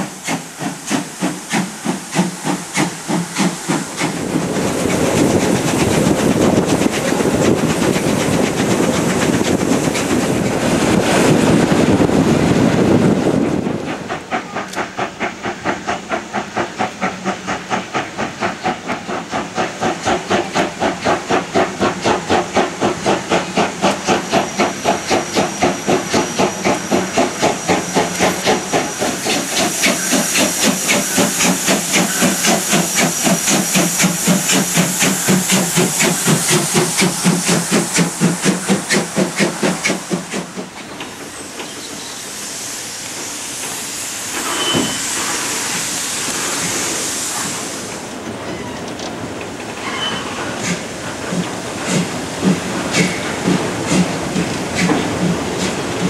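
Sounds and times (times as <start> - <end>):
rushing of moving train: 0.0 - 56.0
steam hissing: 0.0 - 56.0
steam locomotive chuffing: 0.0 - 56.0.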